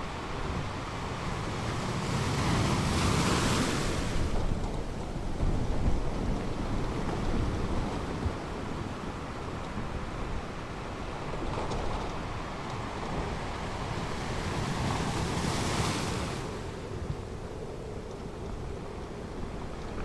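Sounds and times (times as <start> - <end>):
ocean waves breaking: 0.0 - 18.0
wind on microphone: 0.0 - 20.0.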